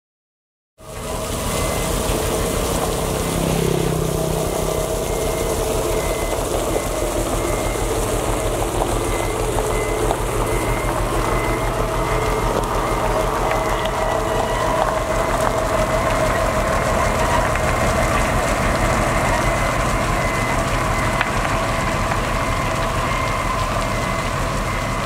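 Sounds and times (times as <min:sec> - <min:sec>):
diesel engines running: 0:00.8 - 0:25.0
reversing alarm beeping: 0:00.8 - 0:25.0.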